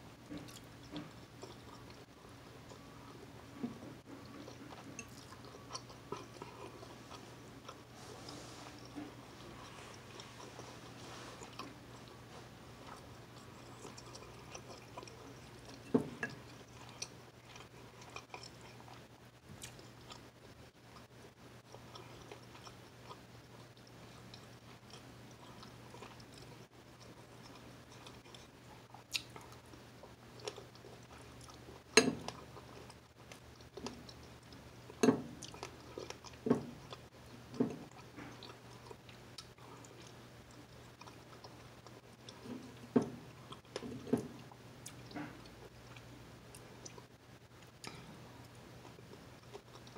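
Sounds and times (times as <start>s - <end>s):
faint low hum: 0.0s - 49.9s.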